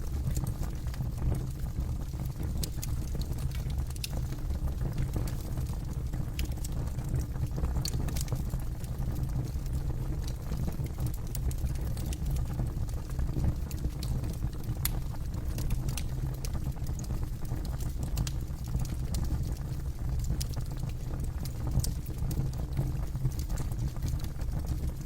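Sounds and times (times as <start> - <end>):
campfire low rumble: 0.0 - 25.0
wood crackling and popping: 0.0 - 25.0.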